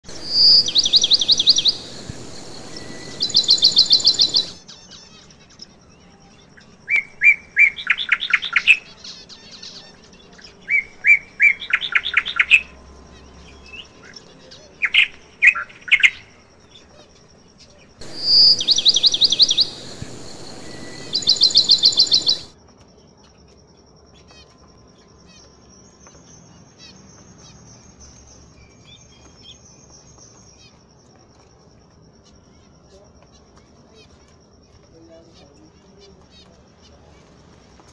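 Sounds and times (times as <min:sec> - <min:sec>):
finches chirping: 0:00.1 - 0:31.1.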